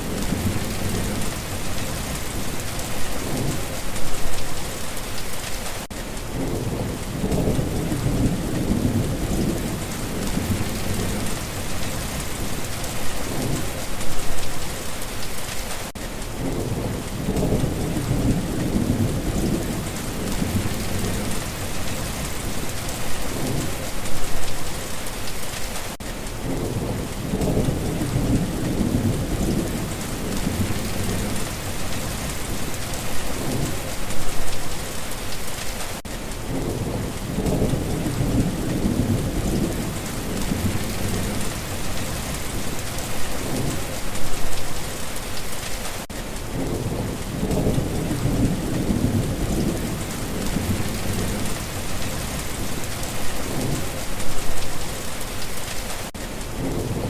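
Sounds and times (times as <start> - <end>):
rolling thunder rumbles: 0.0 - 4.9, 6.3 - 15.0, 16.4 - 24.5, 26.4 - 34.6, 36.4 - 44.8, 46.4 - 55.6
heavy rain hissing: 0.0 - 57.0.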